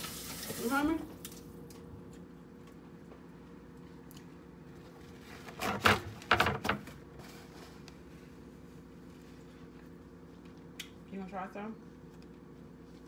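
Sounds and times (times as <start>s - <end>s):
steady low hum: 0.9s - 13.0s.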